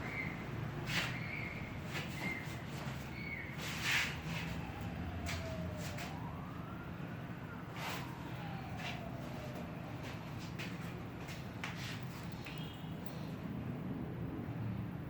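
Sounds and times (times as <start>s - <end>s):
distant siren: 0.0s - 13.5s.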